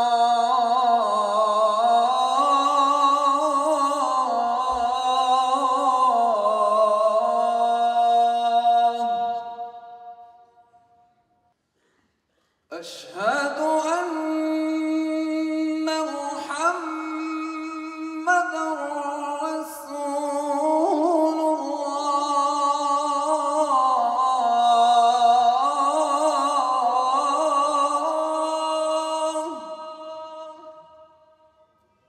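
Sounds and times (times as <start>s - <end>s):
man chanting through a microphone: 0.0s - 9.7s, 12.7s - 30.9s.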